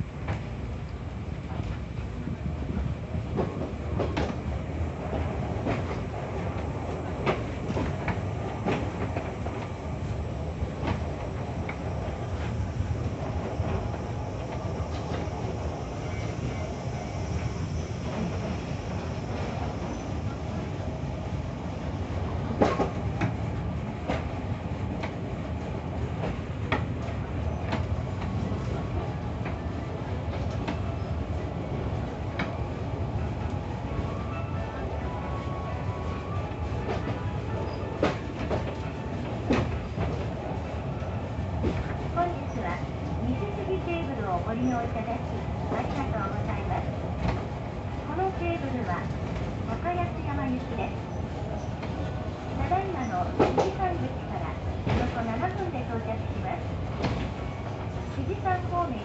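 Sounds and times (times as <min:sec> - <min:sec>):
funicular running gear rumble: 0:00.0 - 0:59.0.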